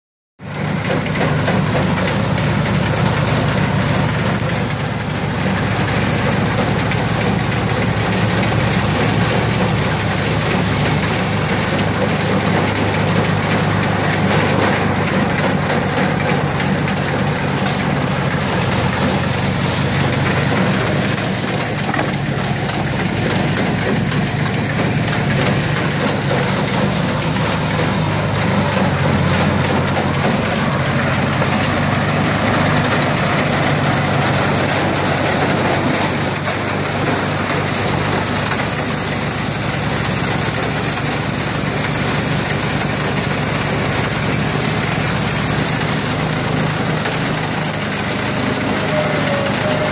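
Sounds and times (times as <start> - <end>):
gasoline engine droning: 0.4 - 49.9.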